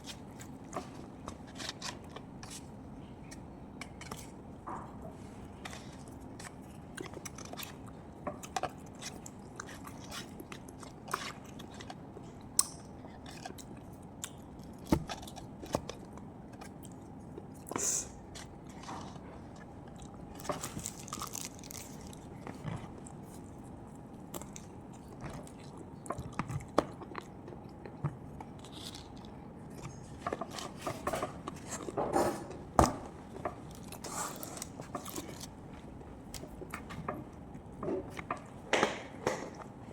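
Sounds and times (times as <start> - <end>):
person chewing food: 0.0 - 39.8.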